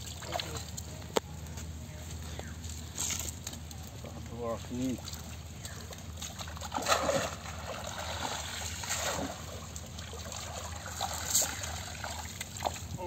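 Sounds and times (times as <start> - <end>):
water trickling and splashing: 0.0 - 1.2, 3.0 - 13.0.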